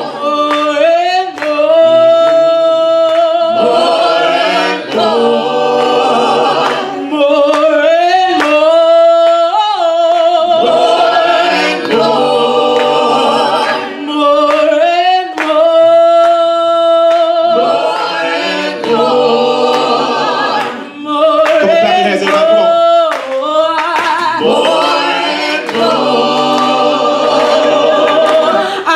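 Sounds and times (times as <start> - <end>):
vocal ensemble singing a cappella: 0.0 - 28.9.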